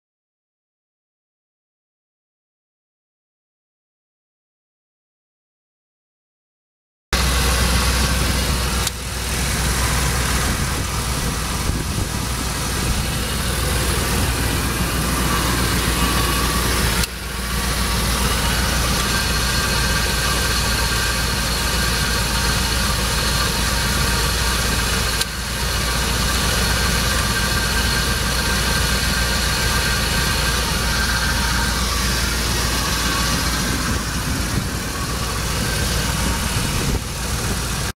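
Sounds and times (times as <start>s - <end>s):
truck engine idling: 7.2s - 37.9s.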